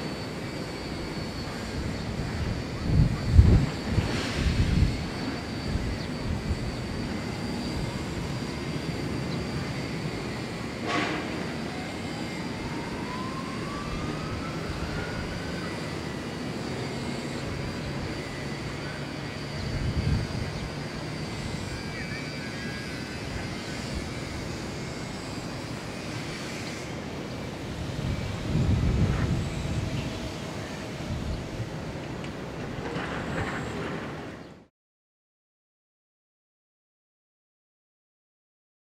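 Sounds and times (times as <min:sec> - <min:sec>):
distant jet engines rumbling: 0:00.0 - 0:34.6
high jet engine whine: 0:00.0 - 0:34.7.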